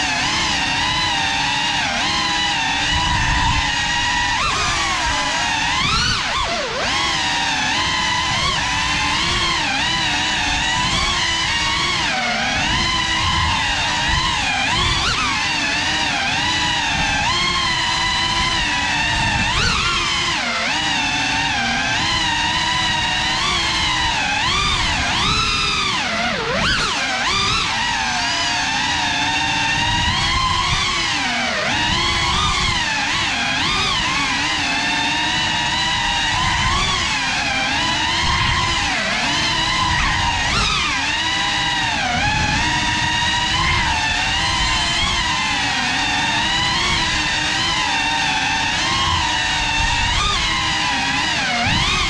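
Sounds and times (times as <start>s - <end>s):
drone motors and propellers whining: 0.0s - 52.0s.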